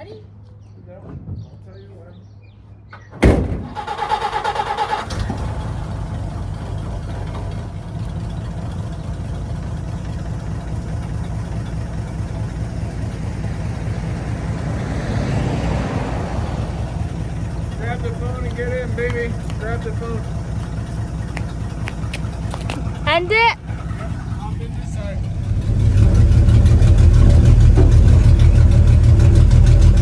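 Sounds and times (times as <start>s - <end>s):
car engine starting and idling: 3.2s - 30.0s.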